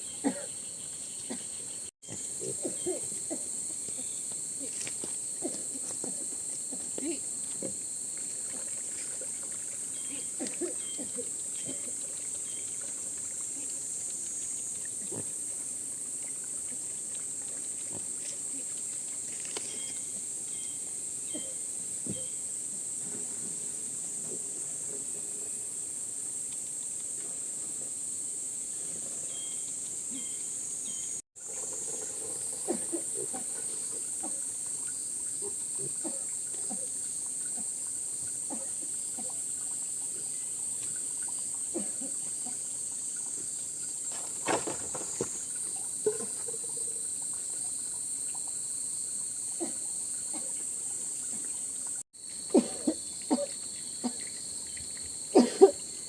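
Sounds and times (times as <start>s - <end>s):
insect chorus: 0.0s - 56.0s.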